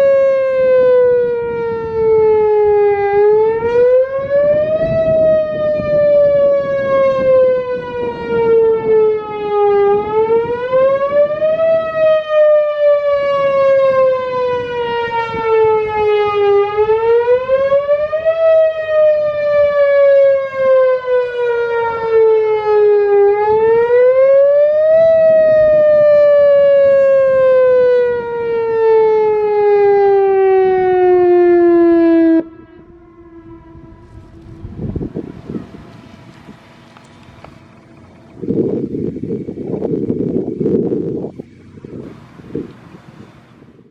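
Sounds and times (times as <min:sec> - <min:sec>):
warning siren wailing: 0:00.0 - 0:43.9.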